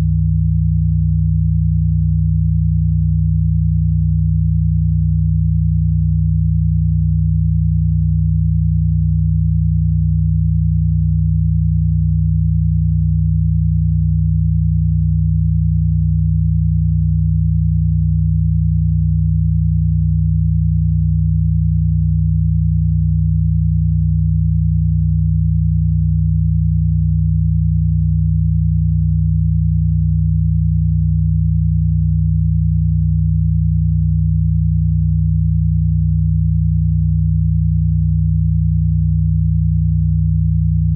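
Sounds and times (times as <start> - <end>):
low electronic sine tone: 0.0 - 40.9.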